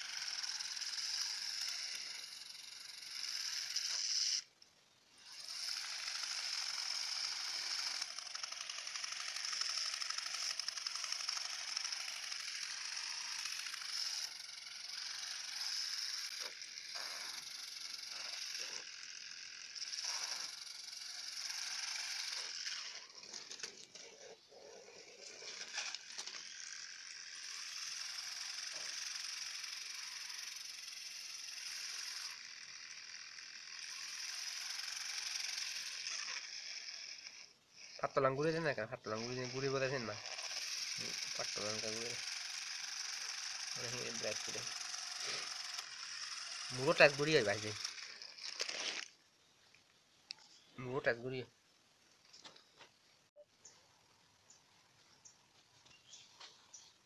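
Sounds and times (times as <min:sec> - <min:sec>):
small motor high whir: 0:00.0 - 0:49.3, 0:53.6 - 0:57.0.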